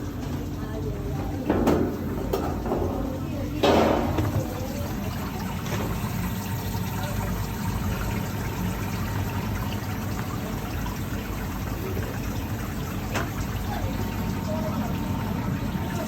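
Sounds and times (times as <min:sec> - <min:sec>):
ice machine humming: 0:00.0 - 0:16.0
water trickling: 0:00.0 - 0:16.0.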